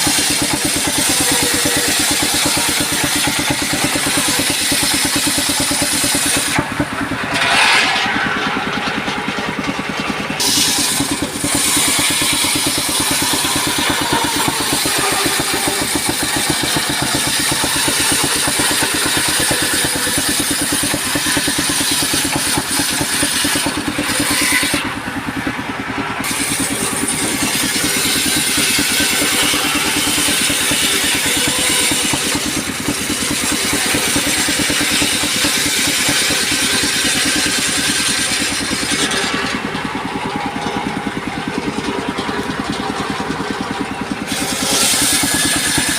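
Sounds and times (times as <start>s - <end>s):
circular saw hissing: 0.0s - 8.2s, 10.4s - 25.0s, 26.2s - 40.1s, 44.2s - 45.9s
small engine running: 0.0s - 45.9s.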